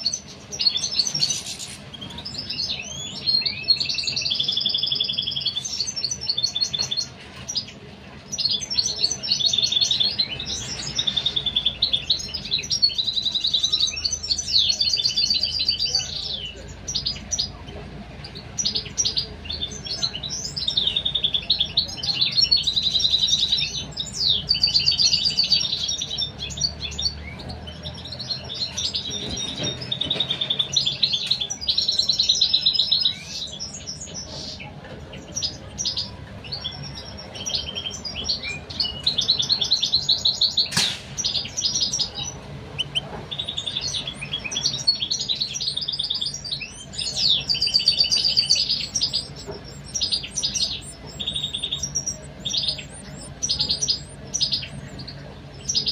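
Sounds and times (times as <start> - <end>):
goldfinches chirping: 8.3 - 55.9.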